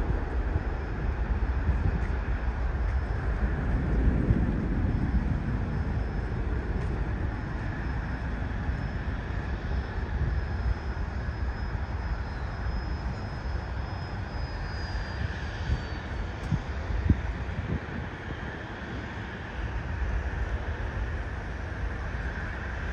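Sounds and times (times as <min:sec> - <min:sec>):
jet airliner engines rumbling: 0:00.0 - 0:22.9.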